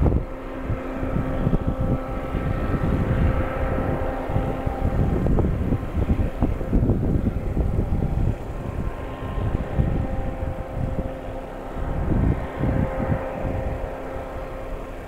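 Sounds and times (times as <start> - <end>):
faint engine hum: 0.0 - 15.0
wind buffeting microphone: 0.0 - 15.0.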